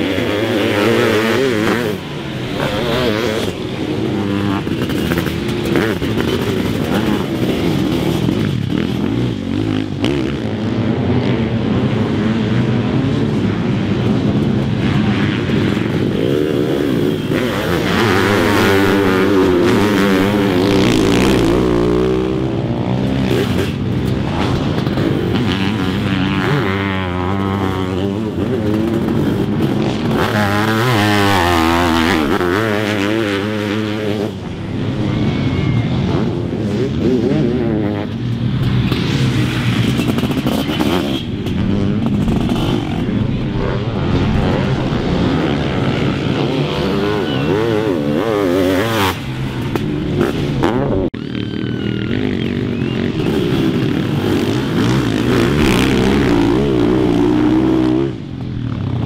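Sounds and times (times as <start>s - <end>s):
motorcycle engines revving hard: 0.0s - 59.0s.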